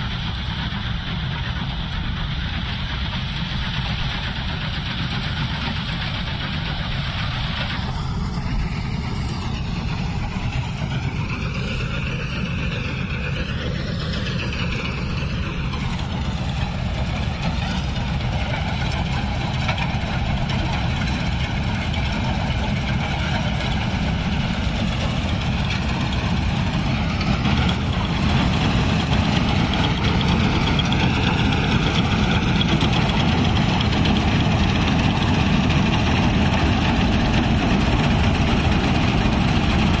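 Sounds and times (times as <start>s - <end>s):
combine harvester engine drone: 0.0s - 40.0s.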